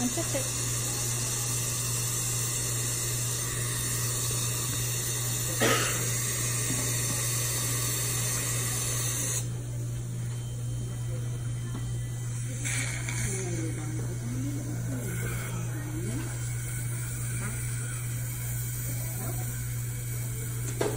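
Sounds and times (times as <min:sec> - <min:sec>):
dental equipment hiss and hum: 0:00.0 - 0:20.9.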